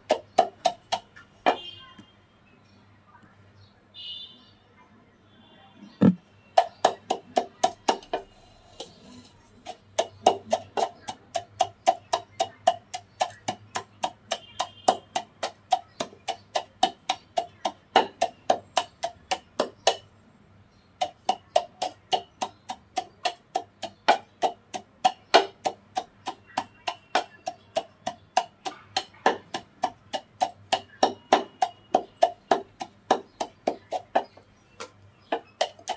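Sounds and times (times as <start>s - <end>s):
wooden pestle pounding in mortar: 0.0s - 1.6s, 6.0s - 20.1s, 21.0s - 35.9s.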